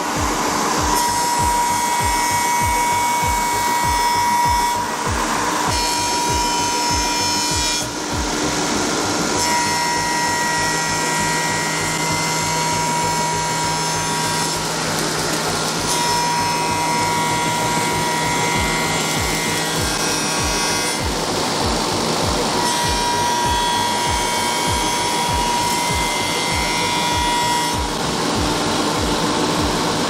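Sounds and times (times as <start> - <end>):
milling cutter high whine: 0.0 - 30.0
wood cutting noise: 0.0 - 30.0.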